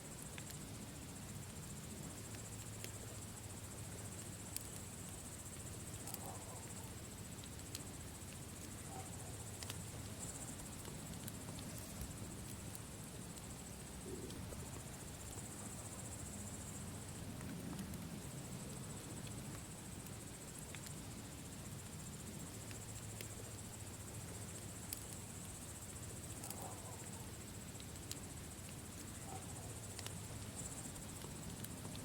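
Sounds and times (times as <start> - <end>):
campfire crackling: 0.0 - 32.0
crickets trilling: 0.0 - 32.0.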